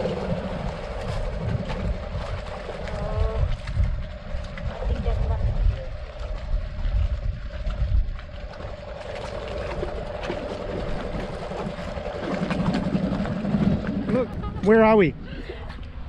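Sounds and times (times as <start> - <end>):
small outboard motor humming: 0.0 - 16.0
wind buffeting microphone: 0.0 - 16.0.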